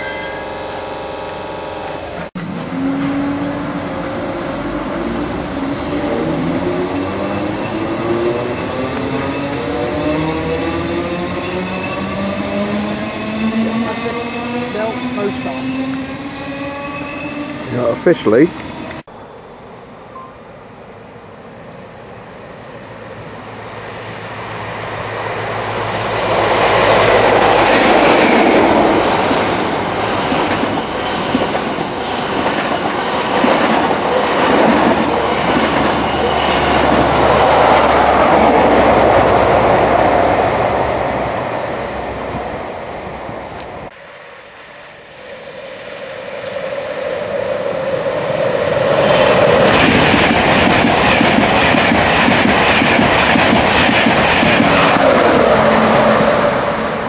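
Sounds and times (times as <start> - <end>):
electric locomotive approaching: 0.0 - 57.0
train passing at speed: 0.0 - 57.0.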